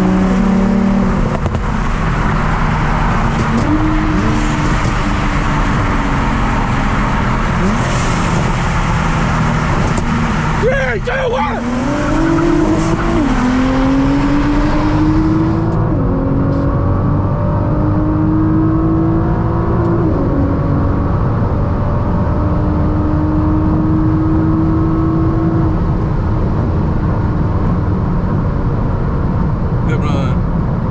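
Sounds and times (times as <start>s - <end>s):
sports car engine accelerating: 0.0s - 30.9s.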